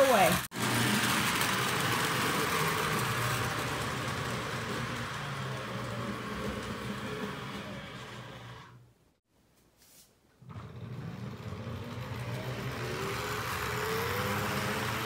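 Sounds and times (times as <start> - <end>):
model train motor hum: 0.0 - 8.8, 10.4 - 15.0
wheels rumbling on rails: 0.0 - 8.8, 10.4 - 15.0.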